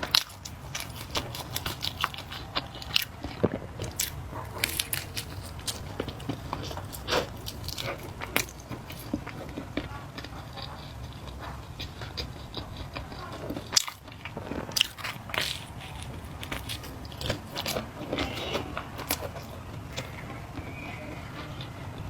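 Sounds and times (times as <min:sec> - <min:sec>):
chewing noodles: 0:00.0 - 0:22.0.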